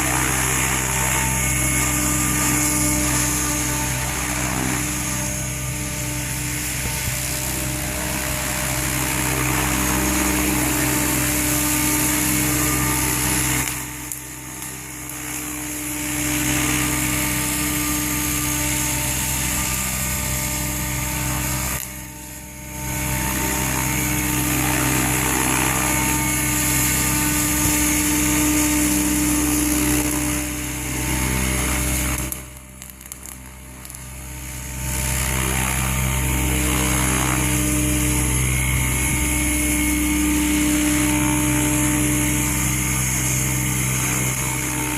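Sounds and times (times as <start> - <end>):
rc helicopter motor and rotor whine: 0.0 - 44.9.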